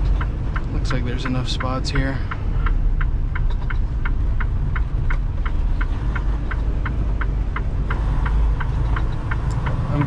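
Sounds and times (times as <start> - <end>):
diesel engine rumble: 0.0 - 10.0
turn signal ticking: 0.0 - 10.0.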